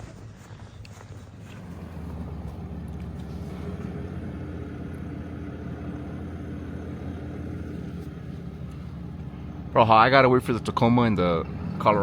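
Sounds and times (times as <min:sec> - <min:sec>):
diesel truck engine droning: 0:00.6 - 0:12.0.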